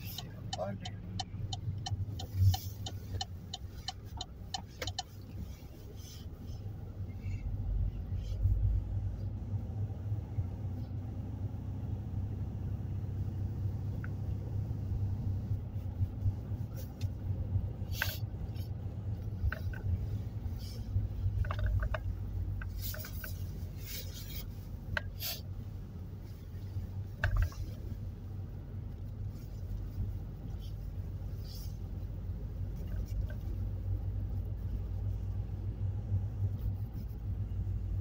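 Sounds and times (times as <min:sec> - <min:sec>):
car driving rumble: 0:00.0 - 0:38.0.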